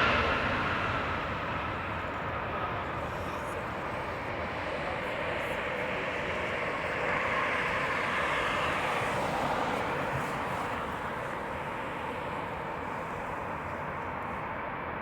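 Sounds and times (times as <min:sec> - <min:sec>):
jet engine rushing: 0:00.0 - 0:14.6.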